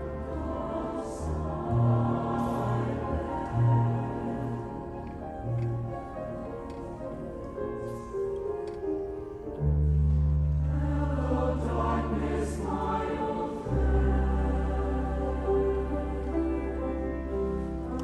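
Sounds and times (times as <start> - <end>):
choir singing in harmony: 0.0 - 7.0, 10.5 - 18.0.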